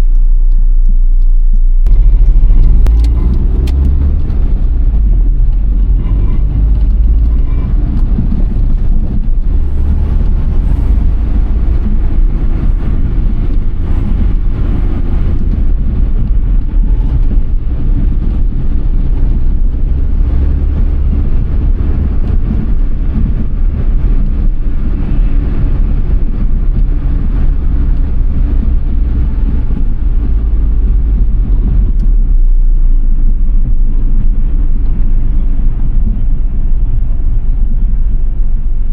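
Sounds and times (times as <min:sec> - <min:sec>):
car engine drone: 0:00.0 - 0:38.9
road rumble: 0:00.0 - 0:38.9.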